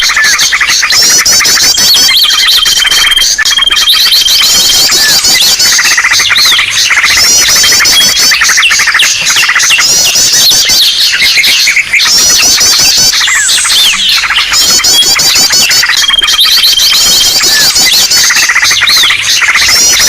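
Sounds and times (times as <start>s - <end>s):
chorus of small birds chirping: 0.0s - 20.0s.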